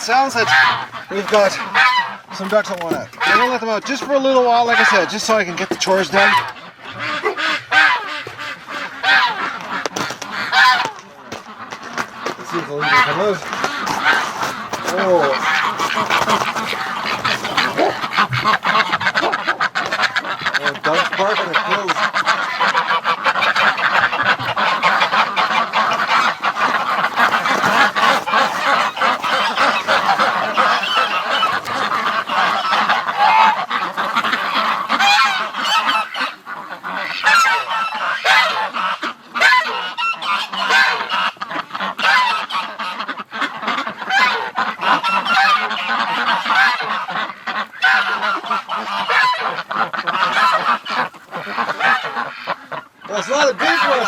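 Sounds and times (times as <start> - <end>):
ducks calling: 0.0 - 54.0
geese honking: 0.0 - 54.0.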